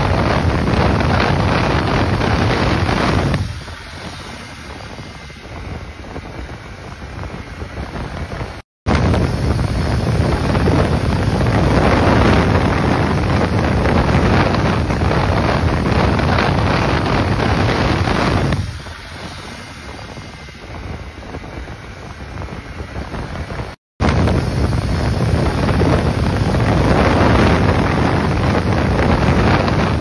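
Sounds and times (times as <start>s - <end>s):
motorcycle road and engine noise: 0.0s - 30.0s
wind rushing over microphone: 0.0s - 30.0s.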